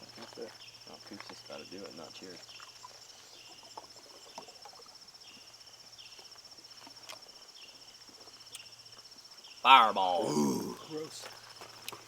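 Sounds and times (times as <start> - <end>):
insects trilling: 0.0 - 11.8.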